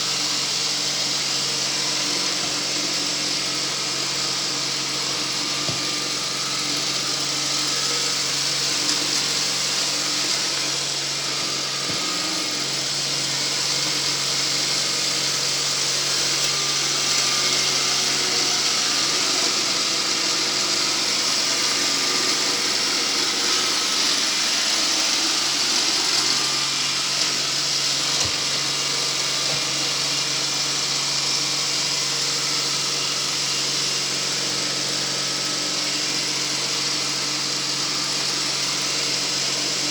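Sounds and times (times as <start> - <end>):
sweeping machine running: 0.0 - 39.9.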